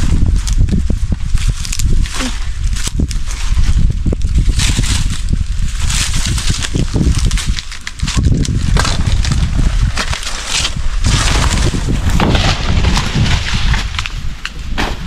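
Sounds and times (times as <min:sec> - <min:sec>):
wind rumble on microphone: 0:00.0 - 0:15.0
banana leaves rustling and tearing: 0:00.1 - 0:15.0.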